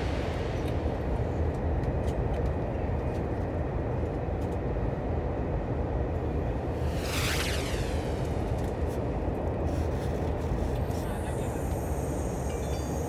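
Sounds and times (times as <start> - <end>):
train rumble in tunnel: 0.0 - 13.0.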